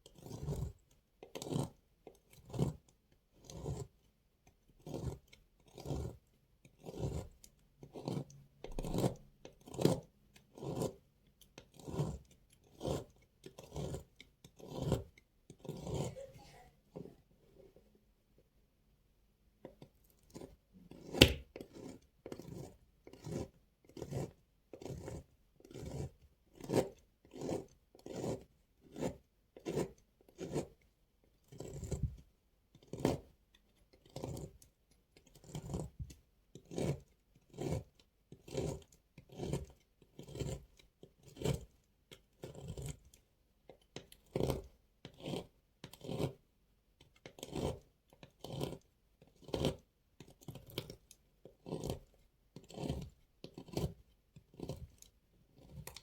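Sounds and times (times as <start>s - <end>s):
knife slicing crumbly soap: 0.0s - 17.8s, 19.5s - 56.0s.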